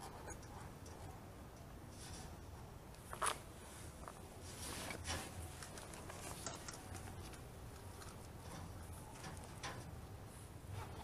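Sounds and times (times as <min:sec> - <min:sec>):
faint rustling and scraping: 0:01.8 - 0:11.0.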